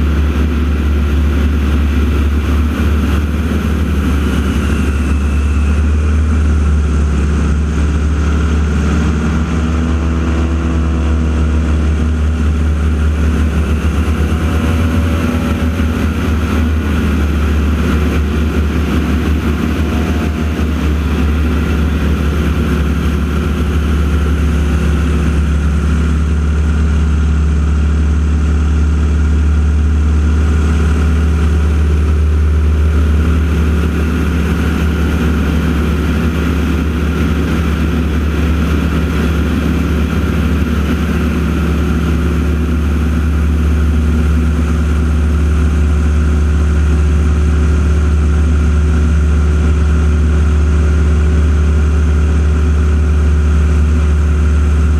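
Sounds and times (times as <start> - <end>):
low engine drone: 0.0 - 54.9.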